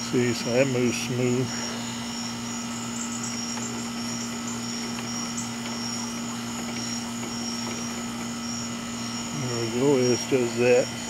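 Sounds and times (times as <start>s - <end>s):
crickets trilling: 0.0s - 11.0s
low electrical hum: 0.0s - 11.0s.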